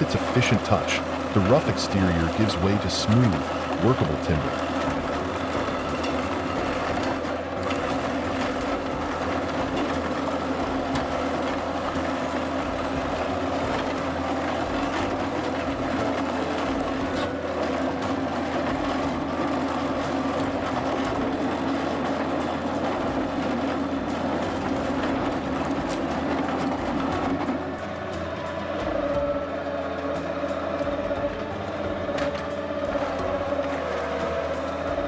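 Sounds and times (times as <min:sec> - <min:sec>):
clattering logs: 0:00.0 - 0:35.0
debarking machine drone: 0:00.0 - 0:35.0.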